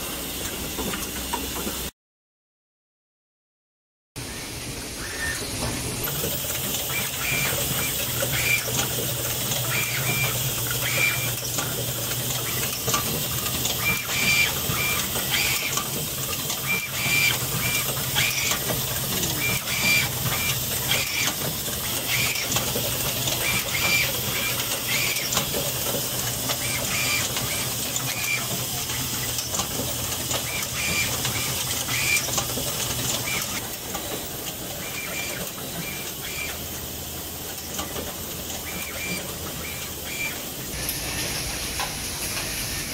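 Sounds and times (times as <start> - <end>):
assembly machine humming: 4.5 - 42.9.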